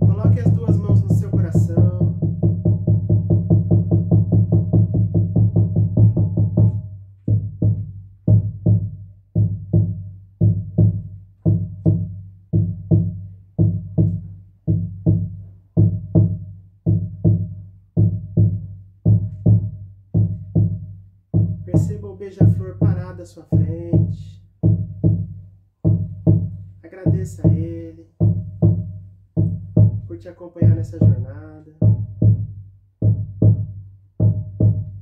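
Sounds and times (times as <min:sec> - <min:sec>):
frame drum deep booms: 0:00.0 - 0:35.0.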